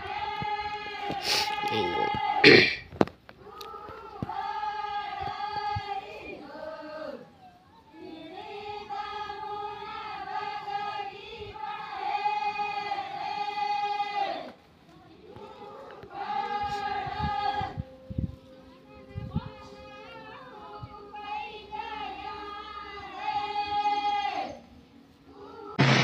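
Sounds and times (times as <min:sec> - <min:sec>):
women singing in unison: 0:00.0 - 0:02.7, 0:03.3 - 0:26.0.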